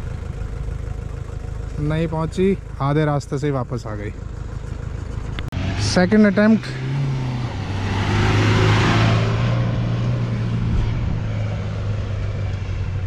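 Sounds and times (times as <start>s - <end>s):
off-road vehicle engine droning: 0.0s - 13.0s.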